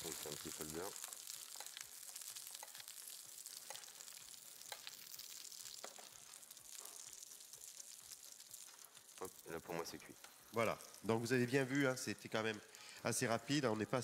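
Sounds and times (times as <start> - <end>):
scallops searing with crackles: 0.0 - 14.0.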